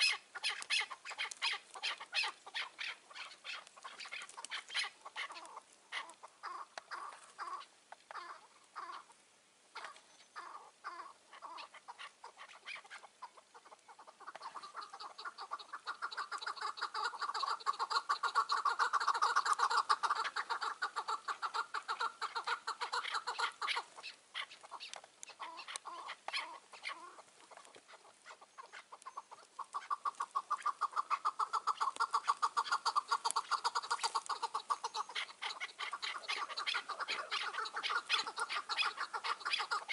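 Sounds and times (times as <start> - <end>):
partridge calling: 0.0 - 39.9.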